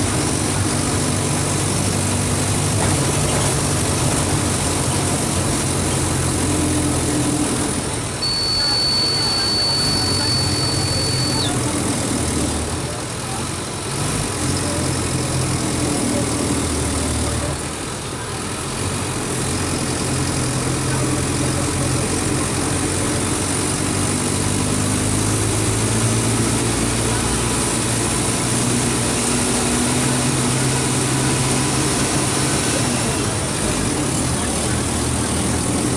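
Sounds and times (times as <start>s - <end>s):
bus diesel engine running: 0.0s - 35.9s.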